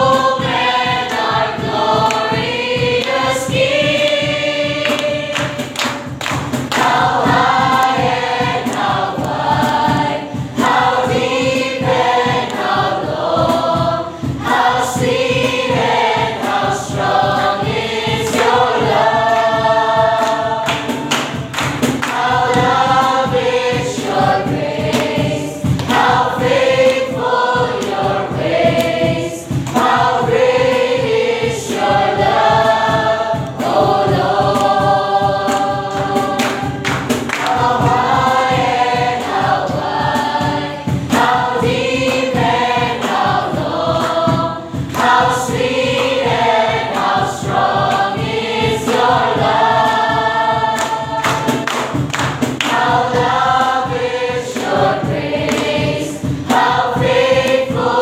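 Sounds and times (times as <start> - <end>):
group singing worship song: 0.0 - 58.0.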